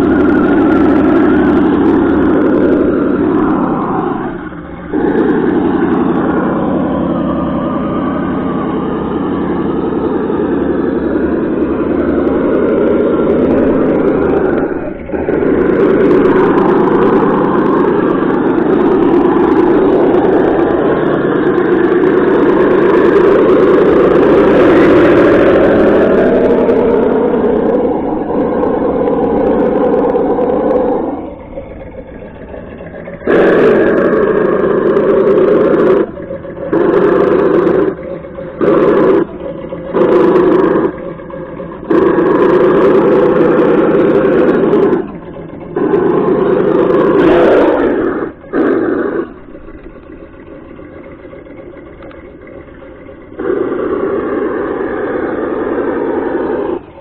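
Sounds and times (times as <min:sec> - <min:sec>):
simulated engine revving: 0:00.0 - 0:57.0.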